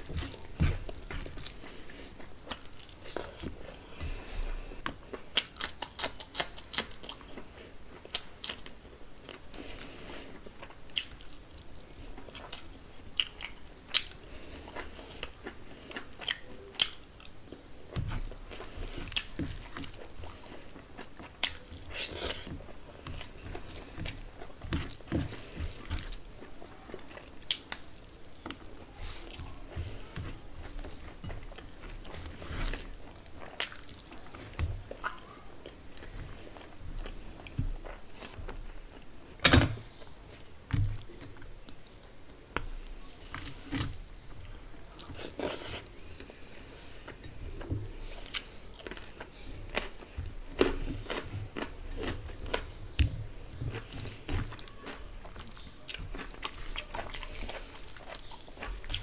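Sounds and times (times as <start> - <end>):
chewing with wet mouth sounds: 0.0 - 59.0.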